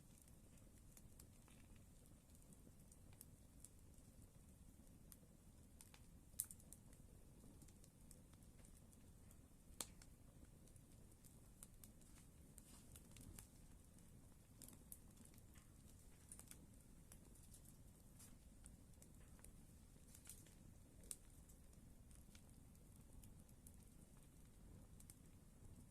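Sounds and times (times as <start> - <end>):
campfire crackling: 0.0 - 25.9.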